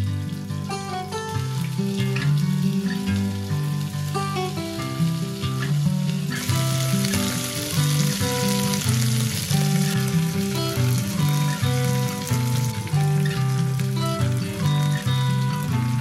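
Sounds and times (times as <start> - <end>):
background music: 0.0 - 16.0
vegetables sizzling: 0.0 - 16.0.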